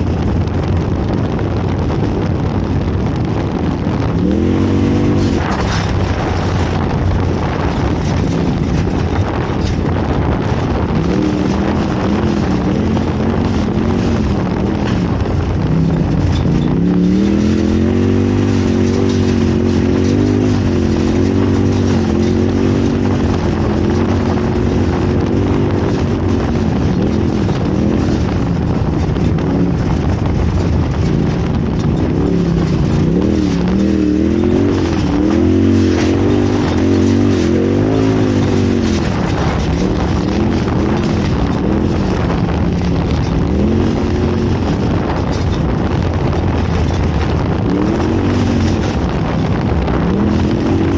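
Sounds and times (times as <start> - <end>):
noisy rush: 0.0 - 50.9
off-road vehicle engine revving: 0.0 - 50.9.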